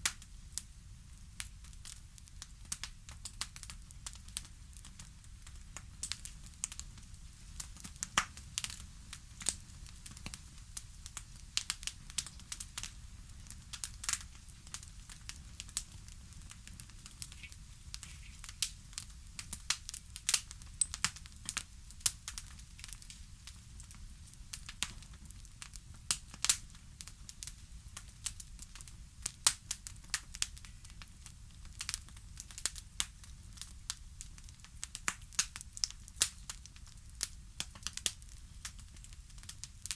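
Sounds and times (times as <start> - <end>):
low rumble of fire: 0.0 - 39.9
wood fire crackling: 0.0 - 39.9.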